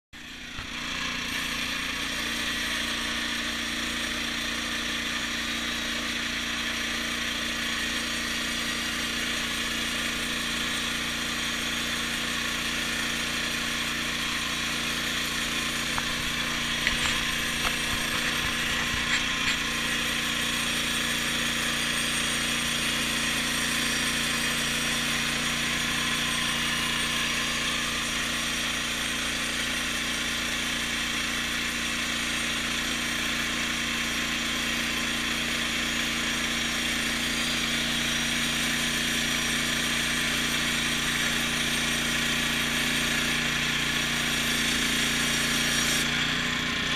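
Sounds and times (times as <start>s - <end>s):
bandsaw mill sawing log: 0.2s - 46.9s.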